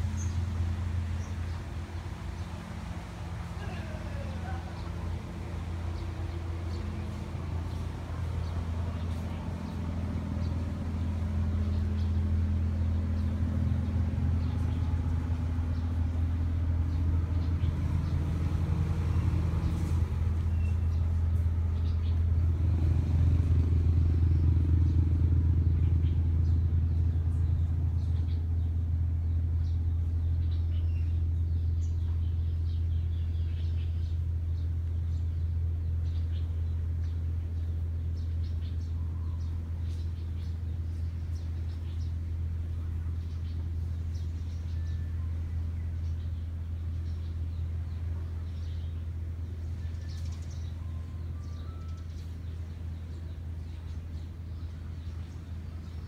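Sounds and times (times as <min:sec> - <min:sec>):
low engine-like rumble: 0:00.0 - 0:56.0.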